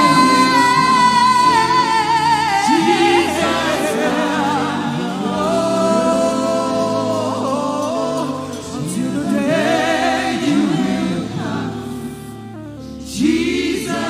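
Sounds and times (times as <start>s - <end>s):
backing music: 0.0s - 14.0s
gospel lead voice singing: 0.0s - 14.0s.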